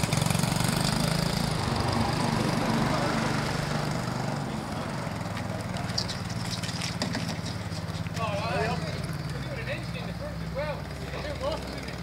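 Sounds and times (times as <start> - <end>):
small motorbike engine running: 0.0 - 12.0.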